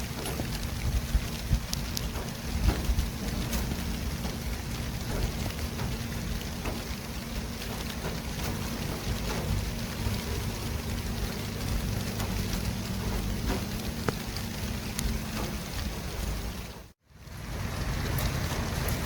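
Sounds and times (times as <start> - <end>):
city traffic: 0.0 - 19.0
constant low hum: 0.0 - 19.0
continuous hiss: 0.0 - 19.0.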